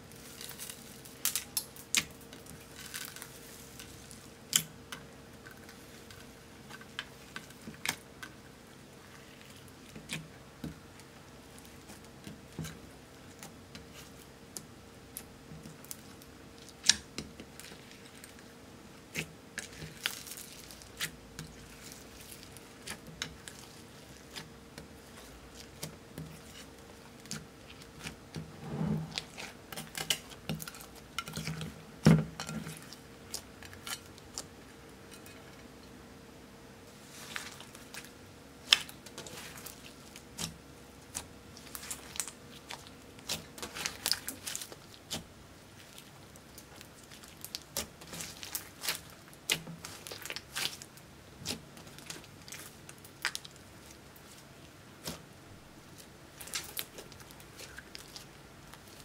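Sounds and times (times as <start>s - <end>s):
slime squelching: 0.2s - 34.6s, 36.9s - 59.0s.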